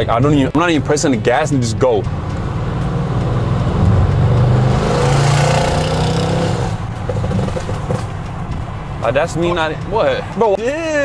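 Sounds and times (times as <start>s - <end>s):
car engine accelerating hard: 0.0s - 10.1s.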